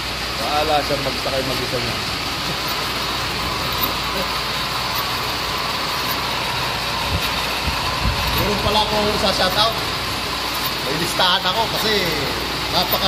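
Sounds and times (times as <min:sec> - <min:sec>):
machinery running with low hum: 0:00.0 - 0:13.0.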